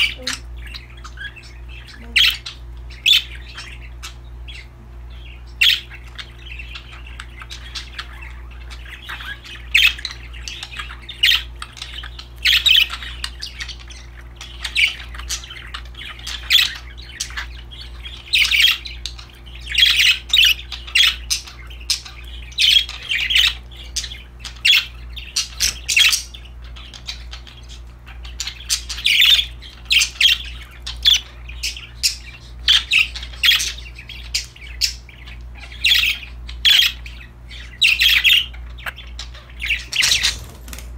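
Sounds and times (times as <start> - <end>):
budgerigars chirping and squawking: 0.0 - 40.9
steady low hum: 0.0 - 40.9.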